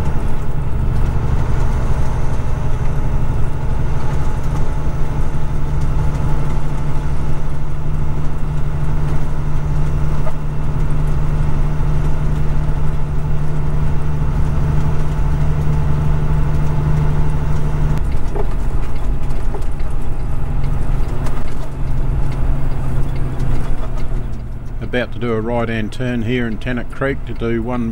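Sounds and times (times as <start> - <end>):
road noise: 0.0 - 27.9
truck diesel engine running: 0.0 - 27.9.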